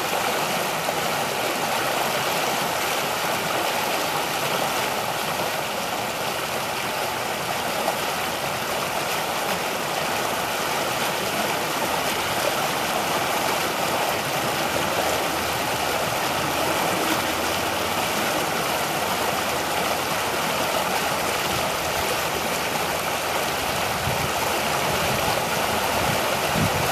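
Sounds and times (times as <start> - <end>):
creek water rushing over rocks: 0.0 - 26.9.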